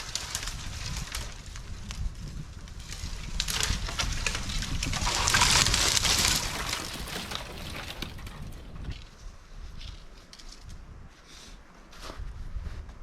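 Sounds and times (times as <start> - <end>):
rustling and crunching with cracks: 0.0 - 10.8
low wind rumble on microphone: 0.0 - 13.0.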